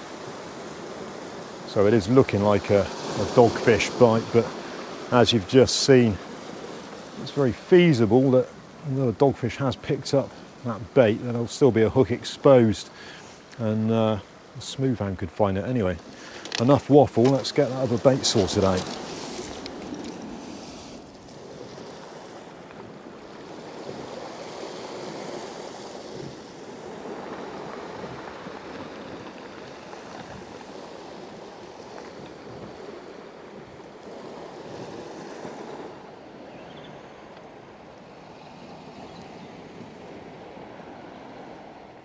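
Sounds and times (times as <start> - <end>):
waves washing onto pebble beach: 0.0 - 36.5.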